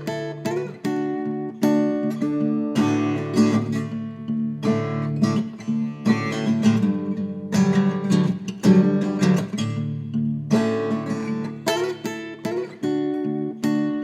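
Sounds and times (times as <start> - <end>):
blues guitar playing: 0.0 - 14.0.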